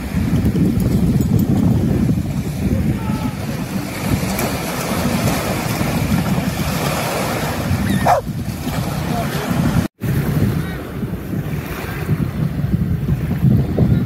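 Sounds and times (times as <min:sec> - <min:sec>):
waves washing onto sand: 0:00.0 - 0:14.0
wind rumbling on microphone: 0:00.0 - 0:14.0.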